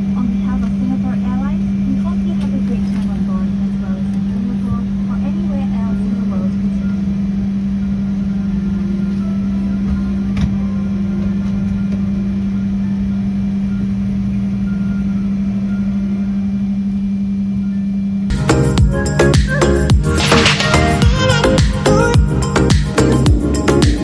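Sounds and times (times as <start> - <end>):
engine drone: 0.0 - 24.0.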